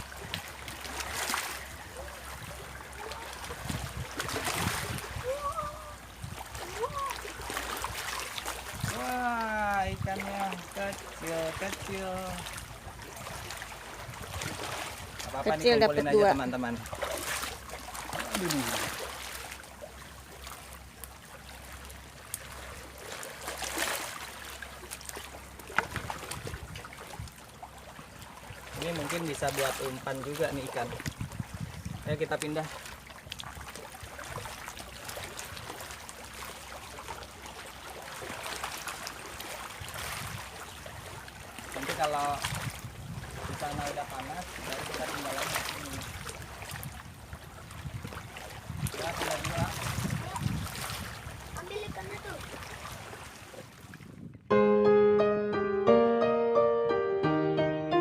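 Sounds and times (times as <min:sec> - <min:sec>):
water splashing and lapping: 0:00.0 - 0:54.5.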